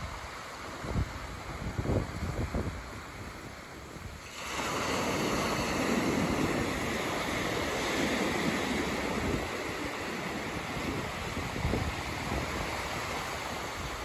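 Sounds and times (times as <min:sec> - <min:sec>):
waves breaking on a beach: 0:00.0 - 0:14.0
wind buffeting microphone: 0:00.0 - 0:14.0.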